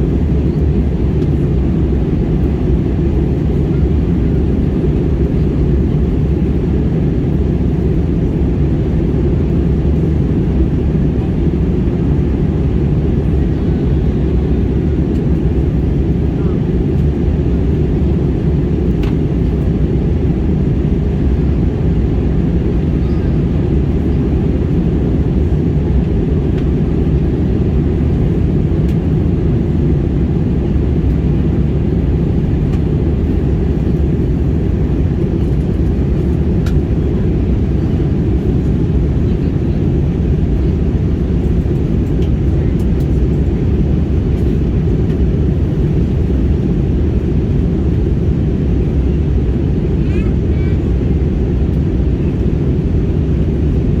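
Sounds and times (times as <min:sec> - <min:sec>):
jet engine and airflow rush: 0:00.0 - 0:54.0.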